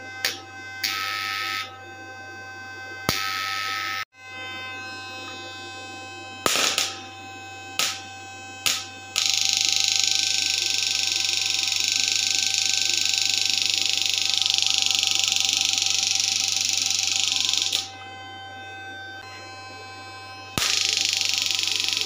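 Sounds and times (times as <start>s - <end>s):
electric shocker pulsing buzz: 0.0s - 22.0s
steady low hum: 0.0s - 22.0s.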